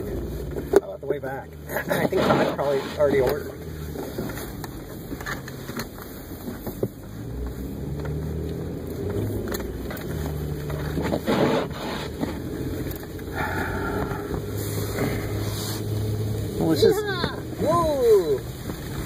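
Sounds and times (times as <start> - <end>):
car engine running: 0.0 - 19.0
tyre and road noise in snow: 0.0 - 19.0.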